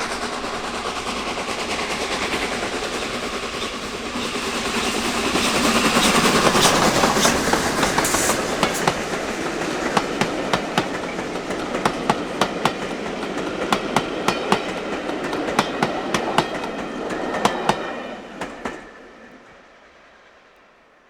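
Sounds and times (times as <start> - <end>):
train wheels clicking over rail joints: 0.0 - 18.9
train rumble: 0.0 - 21.0.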